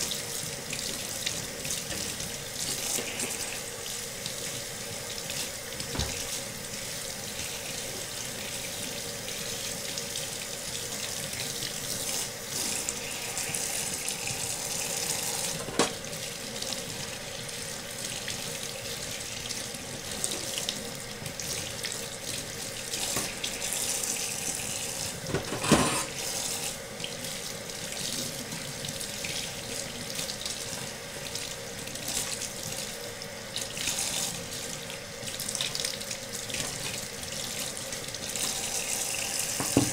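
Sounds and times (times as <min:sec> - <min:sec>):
faucet running into sink: 0:00.0 - 0:39.9.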